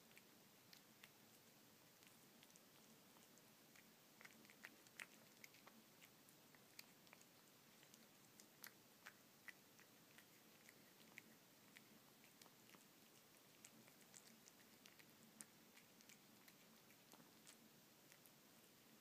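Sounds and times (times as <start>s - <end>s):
cat chewing and licking: 0.0s - 19.0s.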